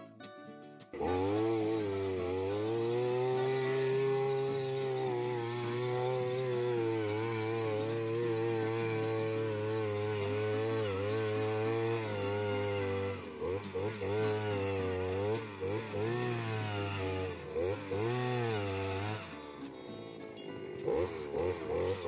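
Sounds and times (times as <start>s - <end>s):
two-stroke earth auger running: 0.8s - 22.0s.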